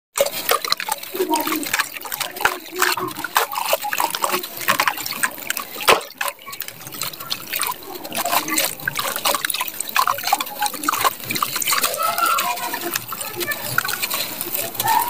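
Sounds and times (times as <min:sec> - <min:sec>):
dry soil crunching and crackling: 0:00.2 - 0:15.0
powder pouring and trickling: 0:00.2 - 0:15.0.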